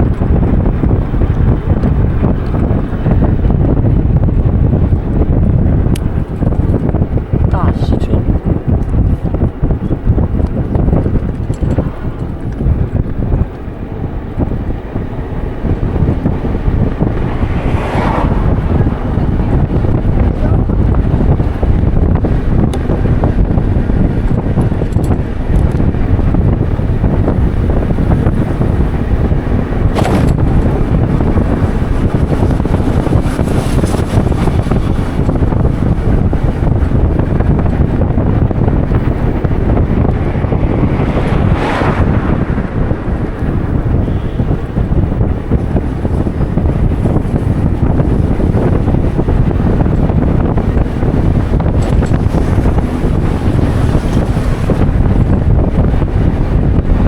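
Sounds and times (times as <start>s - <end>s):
bright wind whooshes: 0.0s - 57.0s
wind buffeting microphone: 0.0s - 57.0s.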